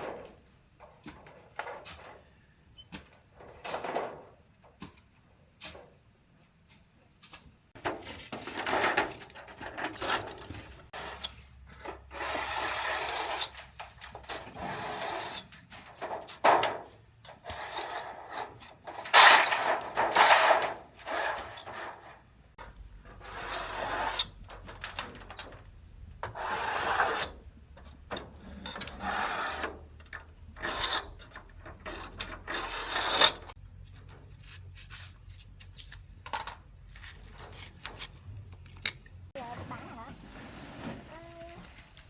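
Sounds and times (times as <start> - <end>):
rubbing and scraping noises: 6.7 - 42.0.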